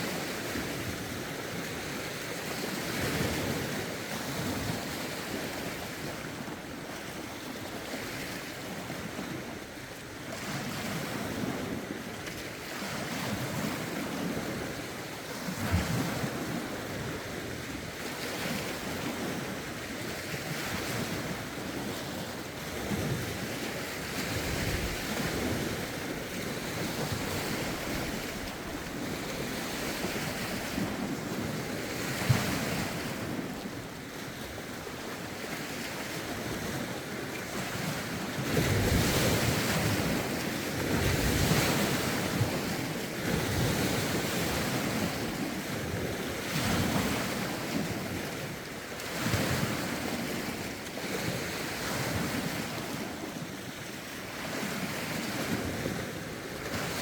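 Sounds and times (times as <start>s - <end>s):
lake waves washing on shore: 0.0s - 57.0s
wind on microphone: 10.4s - 57.0s.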